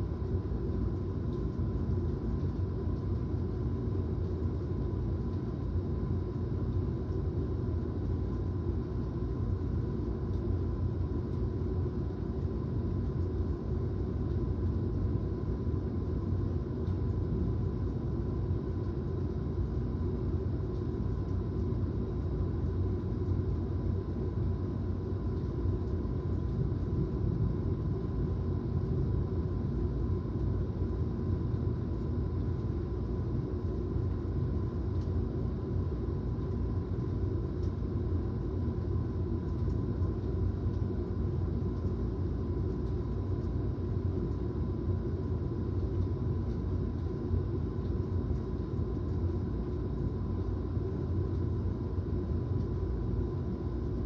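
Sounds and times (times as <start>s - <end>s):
faint whine: 0.0s - 54.0s.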